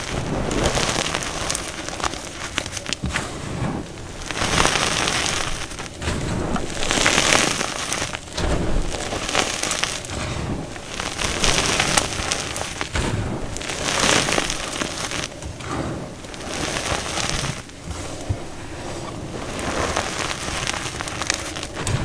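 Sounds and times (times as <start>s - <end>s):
hands crunching crumbly powder: 0.0s - 22.0s.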